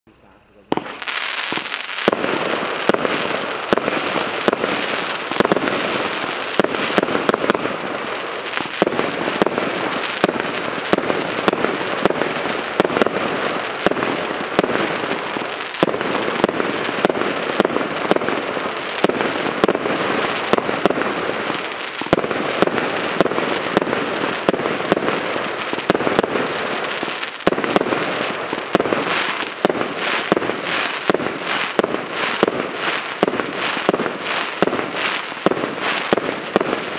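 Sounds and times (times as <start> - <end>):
firework battery shots and bursts: 0.1 - 36.9.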